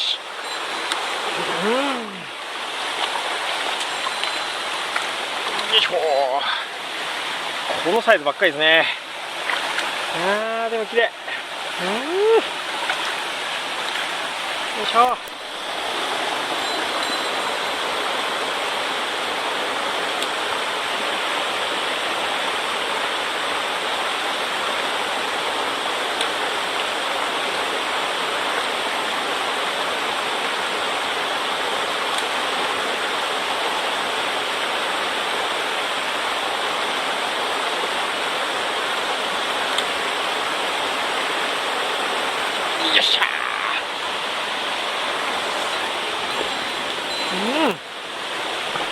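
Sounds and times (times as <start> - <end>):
stream water rushing: 0.0 - 48.9.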